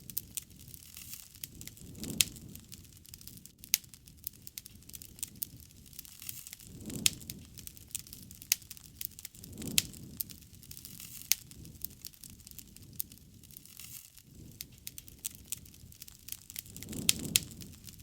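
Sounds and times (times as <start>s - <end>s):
sharp pops from fire: 0.0s - 18.0s
wood fire crackling: 0.0s - 18.0s.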